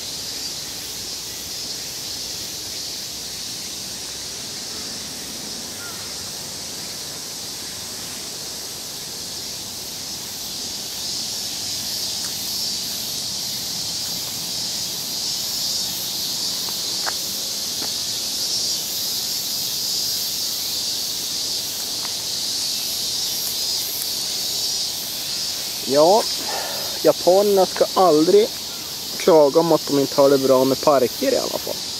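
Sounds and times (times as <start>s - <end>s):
cicadas buzzing: 0.0s - 31.9s.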